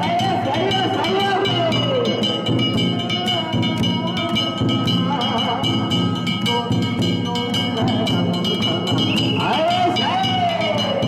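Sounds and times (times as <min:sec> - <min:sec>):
drum beating: 0:00.0 - 0:11.0
hand gongs ringing: 0:00.0 - 0:11.0.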